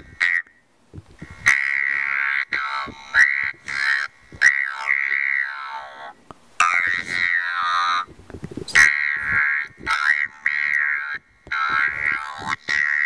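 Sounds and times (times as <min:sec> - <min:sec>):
talk box speech: 0:01.4 - 0:08.1, 0:08.7 - 0:13.0.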